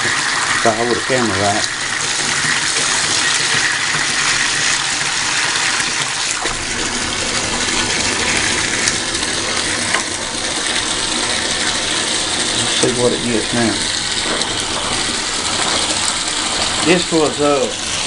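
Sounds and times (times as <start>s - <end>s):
water gushing from faucet: 0.0s - 18.0s.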